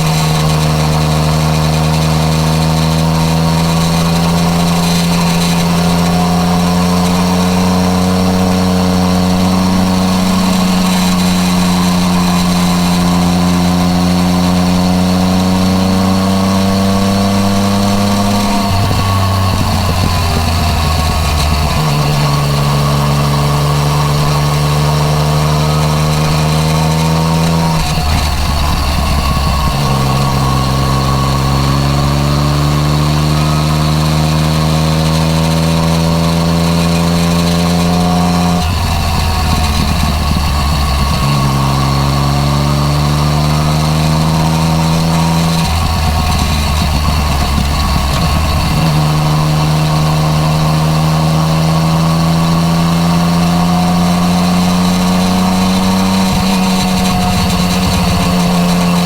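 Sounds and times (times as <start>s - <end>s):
motorcycle engine pulling: 0.0s - 59.0s.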